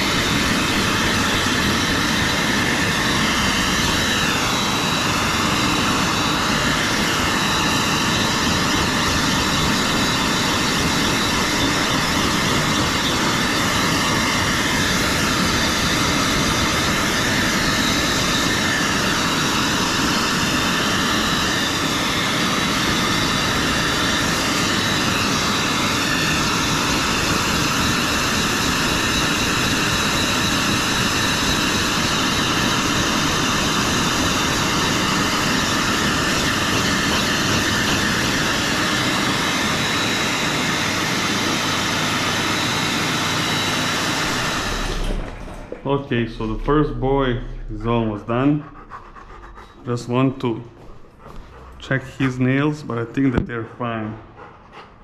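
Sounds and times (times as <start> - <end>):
blower dryer running: 0.0 - 55.0.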